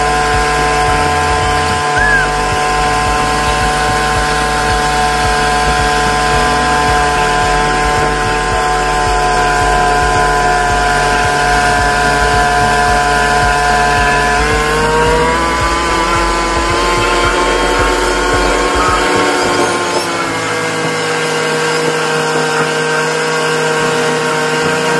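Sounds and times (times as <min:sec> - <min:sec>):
churning wake water: 0:00.0 - 0:24.9
speedboat engine running: 0:00.0 - 0:24.9.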